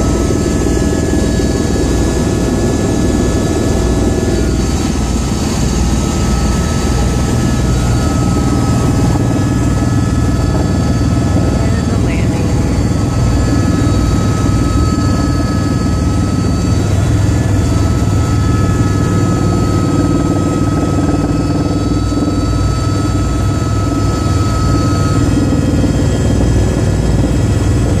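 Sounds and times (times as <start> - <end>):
helicopter drone with high whine: 0.0 - 28.0.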